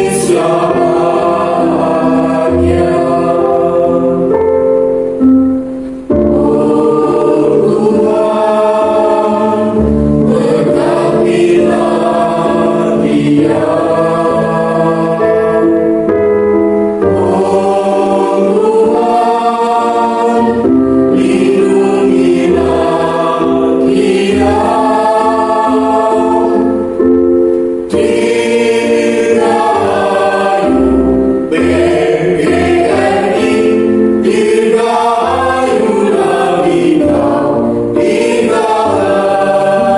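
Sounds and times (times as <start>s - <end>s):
children's choir singing: 0.0s - 5.2s, 5.8s - 39.9s.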